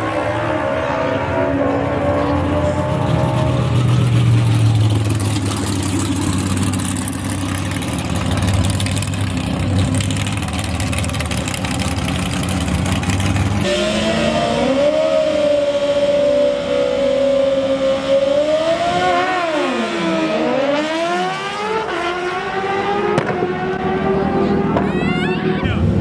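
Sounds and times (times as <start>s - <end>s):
racing engine droning: 0.0s - 26.0s.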